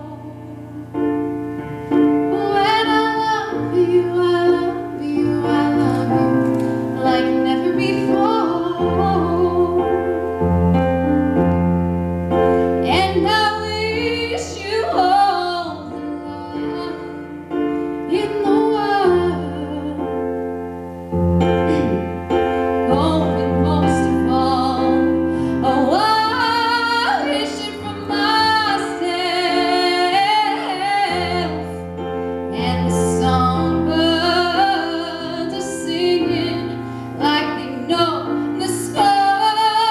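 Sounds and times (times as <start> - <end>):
woman singing: 0.0 - 1.3, 2.2 - 10.6, 12.8 - 20.4, 22.8 - 31.8, 32.5 - 39.9
piano chords: 0.0 - 39.9.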